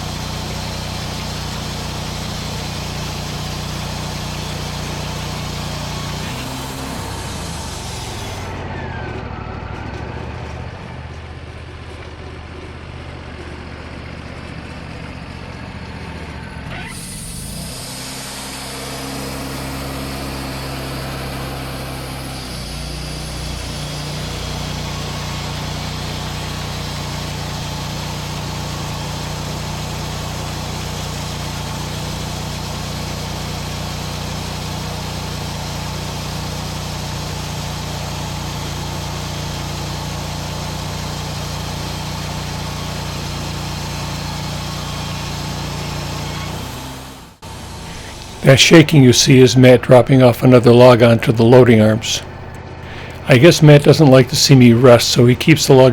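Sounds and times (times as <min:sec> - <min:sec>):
sawmill engine running: 0:00.0 - 0:55.9.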